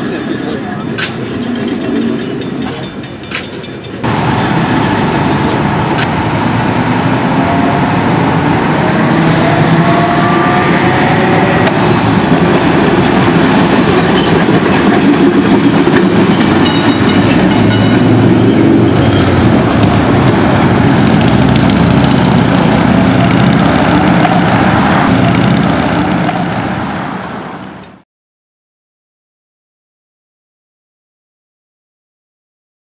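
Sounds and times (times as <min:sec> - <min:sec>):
streetcar rumbling on rails: 0:00.0 - 0:28.0.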